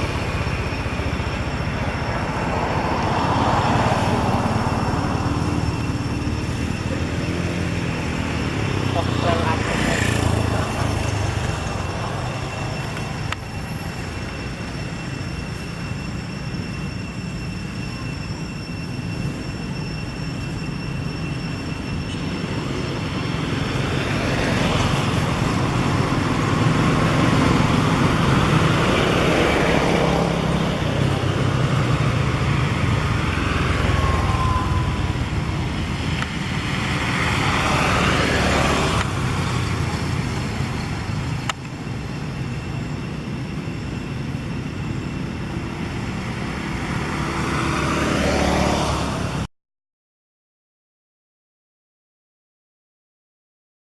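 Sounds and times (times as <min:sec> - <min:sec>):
road traffic noise: 0:00.0 - 0:49.5
vehicles passing: 0:00.0 - 0:49.5.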